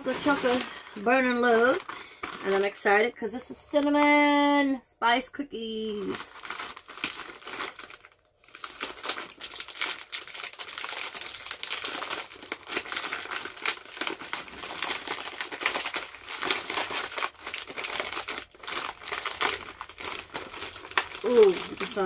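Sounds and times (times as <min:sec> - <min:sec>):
snack packaging crinkling and tearing: 0:00.0 - 0:02.8, 0:05.9 - 0:22.0.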